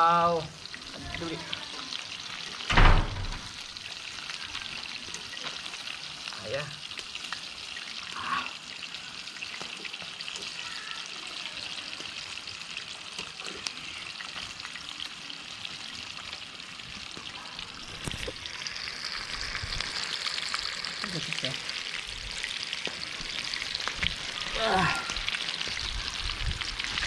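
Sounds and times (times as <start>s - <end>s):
chicken frying in oil: 0.0s - 27.0s.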